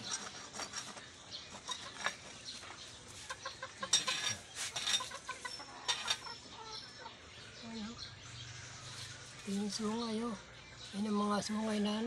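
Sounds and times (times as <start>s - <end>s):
chickens clucking: 0.0s - 10.4s.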